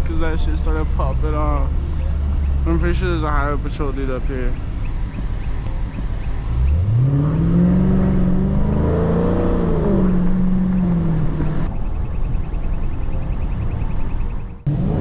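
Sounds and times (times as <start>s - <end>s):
car engine accelerating hard: 0.0s - 11.7s, 14.6s - 15.0s.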